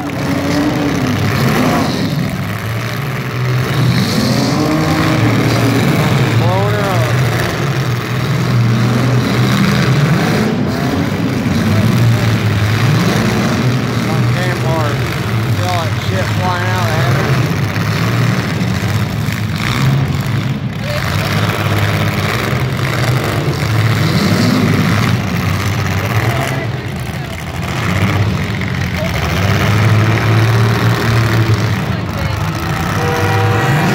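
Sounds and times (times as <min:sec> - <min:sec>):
car engines revving: 0:00.0 - 0:33.9
spectators' voices: 0:00.0 - 0:33.9.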